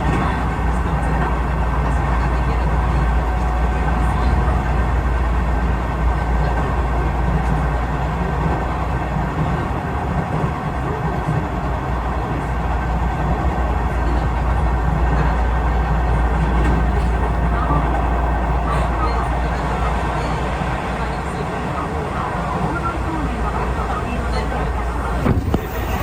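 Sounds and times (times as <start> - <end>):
train running rumble from inside: 0.0 - 26.0.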